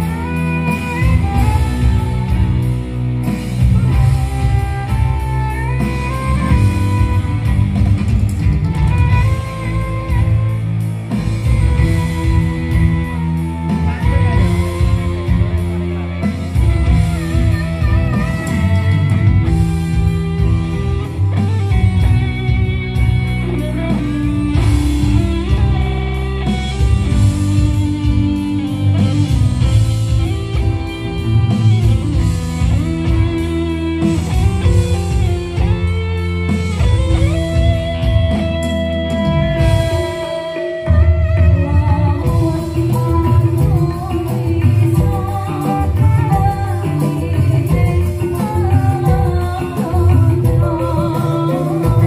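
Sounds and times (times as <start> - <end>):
bass guitar: 0.0 - 52.0
drum kit: 0.0 - 52.0
electric guitar: 0.0 - 52.0
hand drums: 0.0 - 52.0
saxophone: 0.0 - 52.0.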